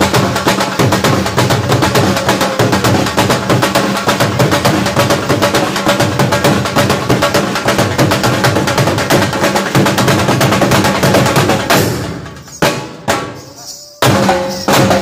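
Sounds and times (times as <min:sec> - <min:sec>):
barrel drums beating fast: 0:00.0 - 0:15.0.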